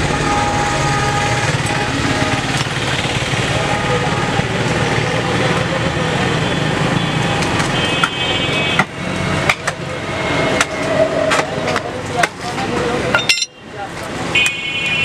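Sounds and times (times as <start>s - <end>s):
traffic: 0.0s - 15.0s.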